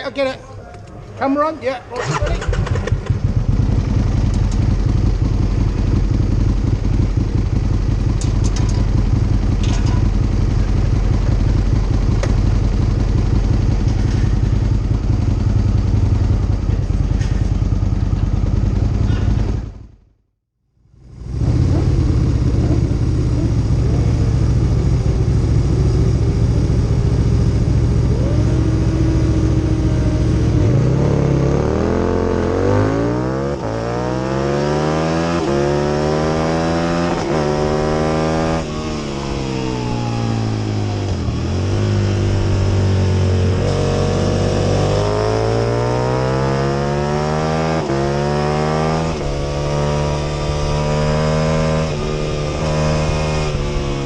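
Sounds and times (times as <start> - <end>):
motorcycle engine revving: 1.9 - 20.1, 21.0 - 54.0.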